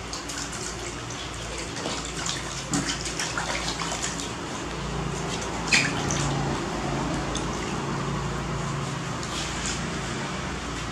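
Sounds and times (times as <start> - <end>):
water splashing and trickling: 0.0 - 10.9.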